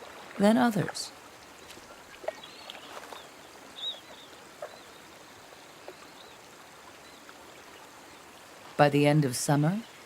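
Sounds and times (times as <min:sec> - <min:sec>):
soft steady hiss: 0:00.0 - 0:10.0.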